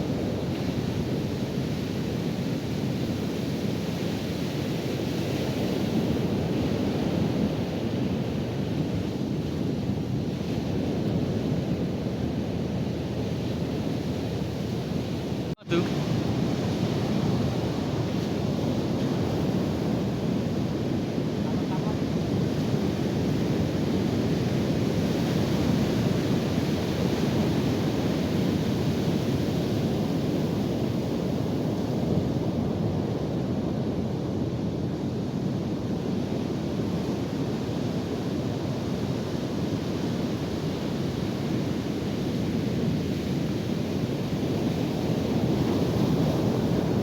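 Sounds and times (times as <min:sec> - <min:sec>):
ocean surf: 0:00.0 - 0:35.3, 0:35.9 - 0:47.0
wind buffeting microphone: 0:00.0 - 0:47.0.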